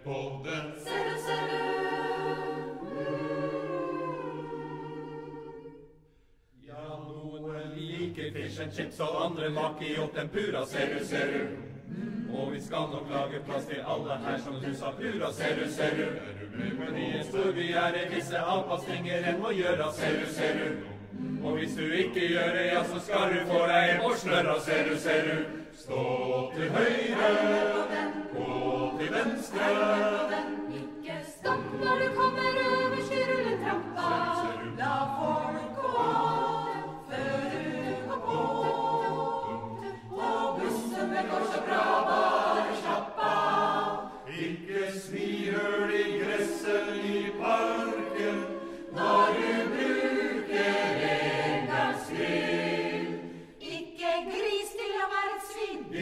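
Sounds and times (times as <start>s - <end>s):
a cappella choir singing: 0.0s - 56.0s.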